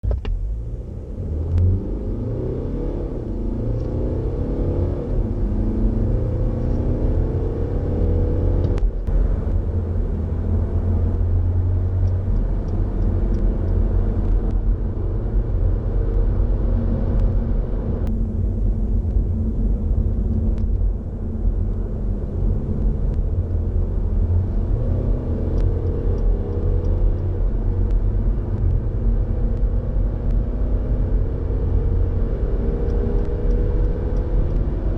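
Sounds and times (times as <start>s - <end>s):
diesel car accelerating hard: 0.2s - 34.9s.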